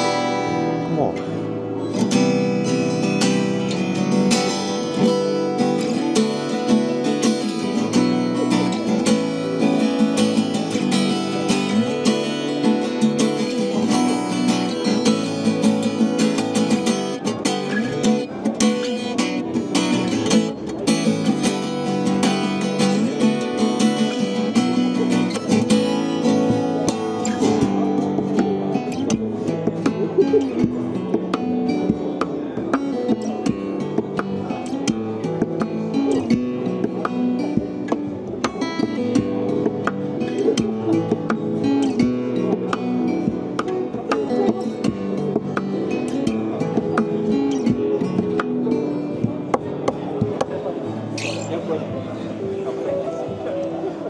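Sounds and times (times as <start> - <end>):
acoustic guitar fingerstyle: 0.0 - 54.0.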